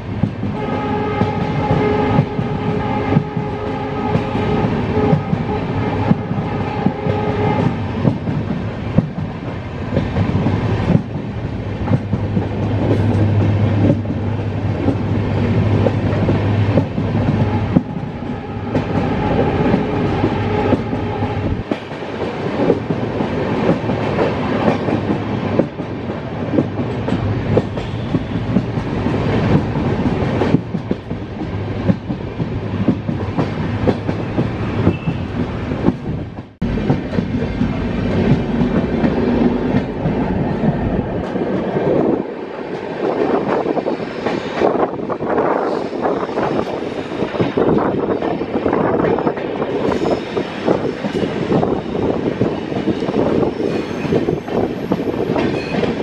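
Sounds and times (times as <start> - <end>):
train running noise: 0.0 - 56.0
train wheels clickety-clacking: 0.0 - 56.0.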